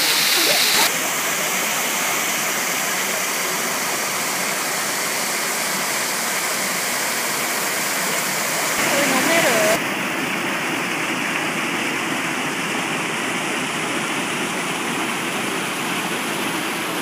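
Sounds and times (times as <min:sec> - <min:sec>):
waterfall rushing into a pool: 0:00.0 - 0:17.0.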